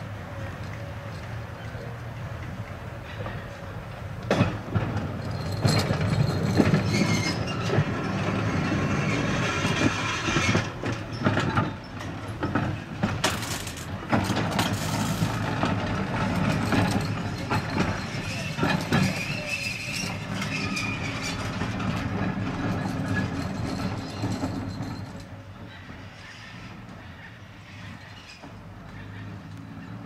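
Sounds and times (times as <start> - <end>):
tram rumbling past: 0.0 - 30.0
wheels clattering over rail joints: 0.0 - 30.0.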